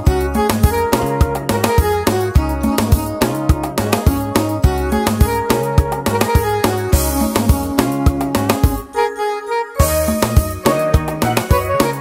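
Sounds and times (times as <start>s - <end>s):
bass line: 0.0s - 8.9s, 9.8s - 12.0s
keyboard melody and chords: 0.0s - 12.0s.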